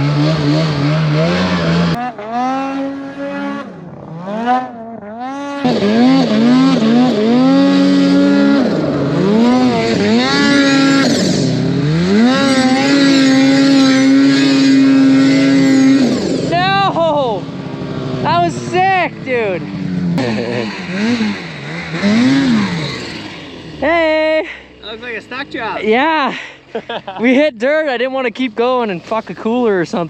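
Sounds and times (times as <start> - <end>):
snowmobile engine revving: 0.0 - 30.0.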